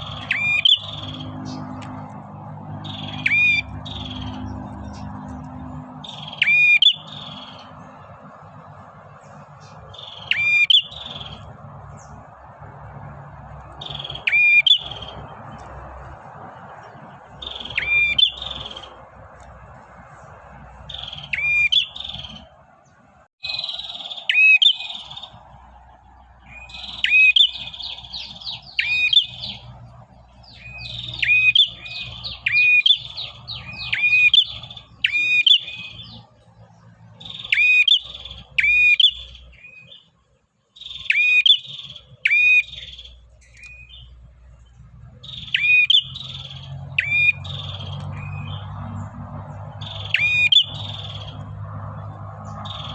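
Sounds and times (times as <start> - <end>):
bird high sharp chirps: 0.0 - 8.1, 9.2 - 22.5, 23.4 - 25.5, 26.4 - 36.3, 37.1 - 40.1, 40.8 - 44.2, 45.2 - 52.9.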